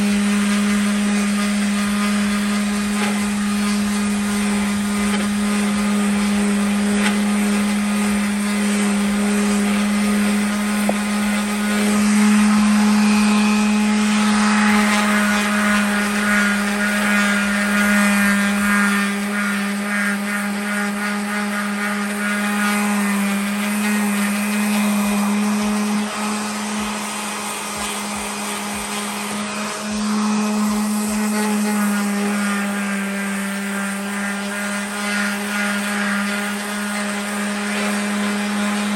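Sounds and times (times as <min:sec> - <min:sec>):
electric sander scraping: 0:00.0 - 0:38.9.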